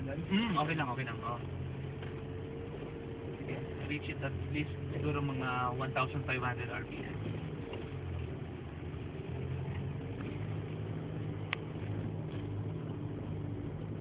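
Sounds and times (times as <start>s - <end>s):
diesel engine running at low revs: 0.0s - 14.0s.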